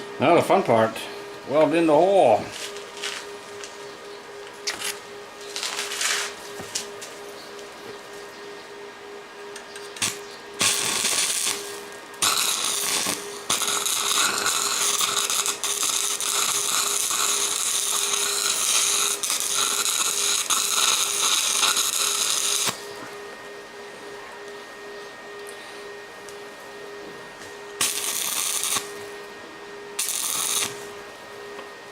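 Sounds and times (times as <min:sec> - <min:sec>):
steady low hum: 0:00.0 - 0:31.9
arc welder crackling and hissing: 0:00.2 - 0:08.3, 0:09.5 - 0:23.4, 0:26.1 - 0:31.9.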